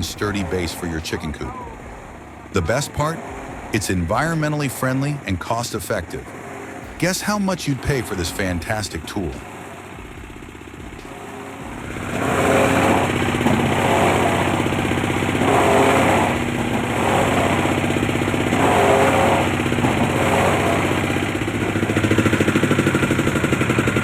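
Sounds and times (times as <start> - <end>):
wood-processing machine running: 0.0 - 24.0.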